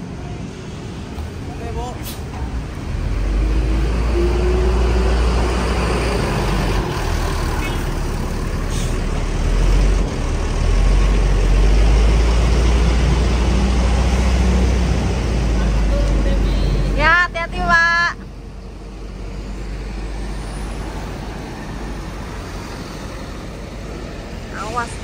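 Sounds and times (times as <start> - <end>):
diesel bus engine rumbling: 0.0 - 25.0.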